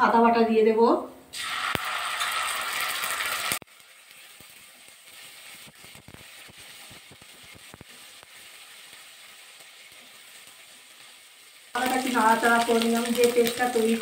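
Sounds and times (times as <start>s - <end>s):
paste sizzling in hot oil: 1.3s - 14.0s.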